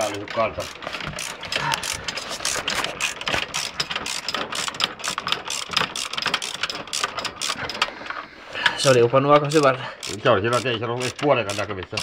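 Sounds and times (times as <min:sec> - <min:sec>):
ratchet wrench clicking: 0:00.0 - 0:07.8, 0:08.8 - 0:12.0.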